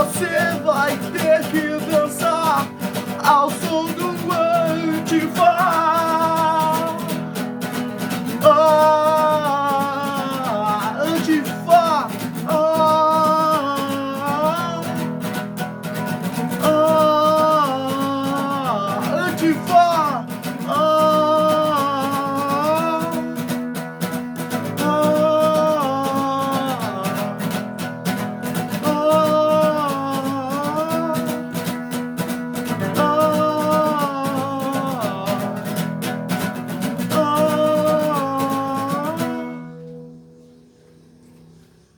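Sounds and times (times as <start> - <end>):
guitar accompaniment: 0.0 - 41.7.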